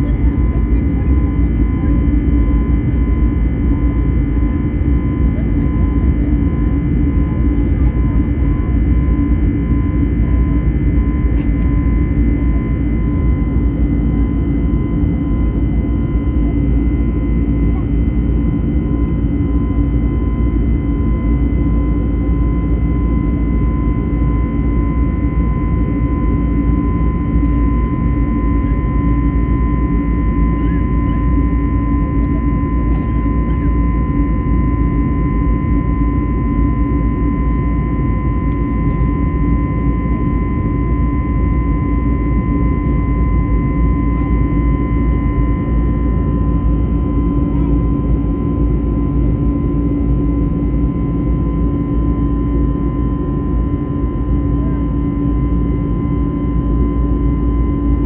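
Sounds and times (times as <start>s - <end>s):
airliner cabin rumble and air rush: 0.0s - 58.0s
thin steady whine: 0.0s - 58.0s.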